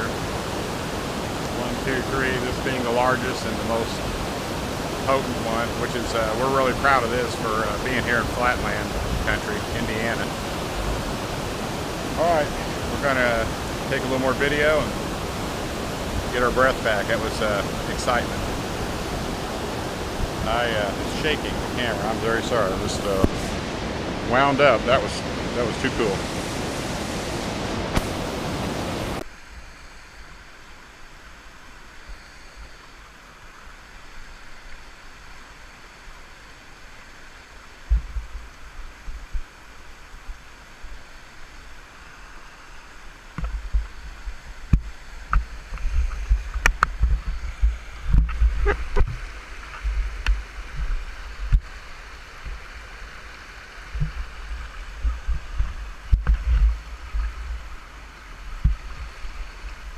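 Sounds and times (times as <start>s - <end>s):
water rushing over waterfall: 0.0s - 29.6s, 33.0s - 59.9s.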